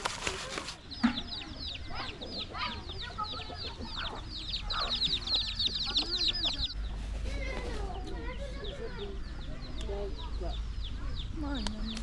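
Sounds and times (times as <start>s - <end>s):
chicks peeping: 0.4s - 12.0s.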